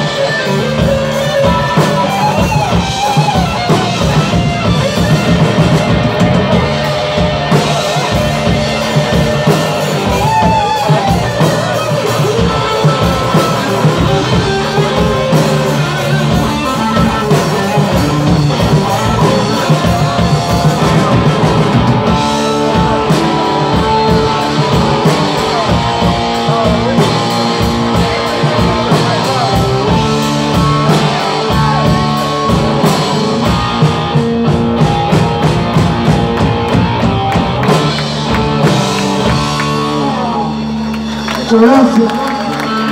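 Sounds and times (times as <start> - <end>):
drum kit beat: 0.0 - 42.9
electric guitars: 0.0 - 42.9.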